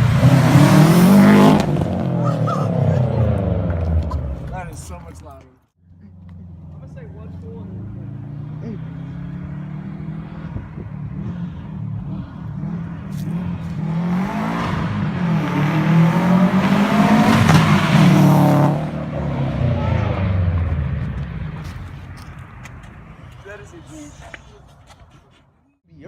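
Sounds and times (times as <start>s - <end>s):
car accelerating past: 0.0s - 4.5s, 6.0s - 23.2s.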